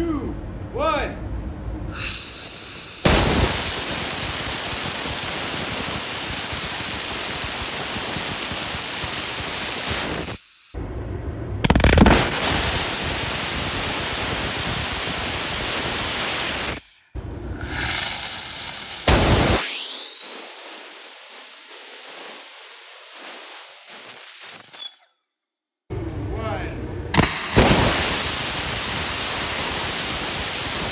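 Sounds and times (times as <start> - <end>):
rocket engine ignition burst: 1.9 - 10.8, 11.6 - 25.0, 27.1 - 30.9
rocket engine rushing hiss: 1.9 - 10.8, 11.6 - 25.0, 27.1 - 30.9.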